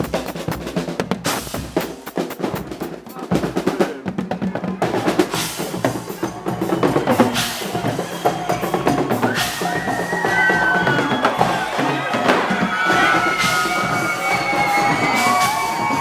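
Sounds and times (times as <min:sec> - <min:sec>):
bass drum beats: 0:00.0 - 0:16.0
snare drum rolls: 0:00.0 - 0:16.0.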